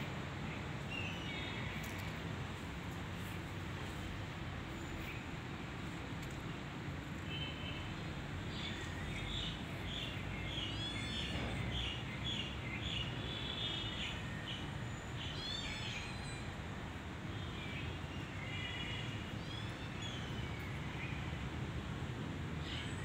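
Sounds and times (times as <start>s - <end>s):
low background noise: 0.0s - 23.0s.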